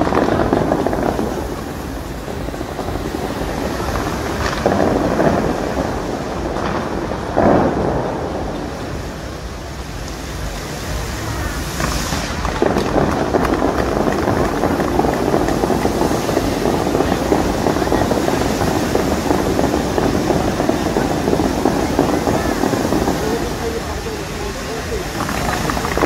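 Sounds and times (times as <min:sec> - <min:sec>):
water jets rushing and splashing: 0:00.0 - 0:26.0
wind buffeting microphone: 0:00.0 - 0:26.0.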